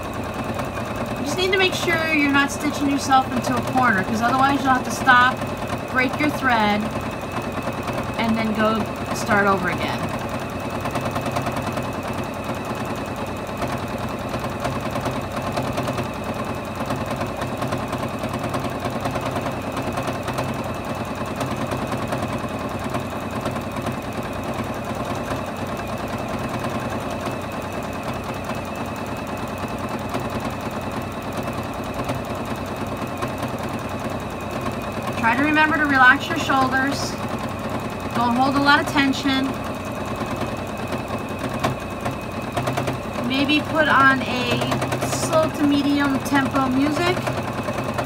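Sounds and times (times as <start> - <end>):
sewing machine stitching: 0.0 - 48.0.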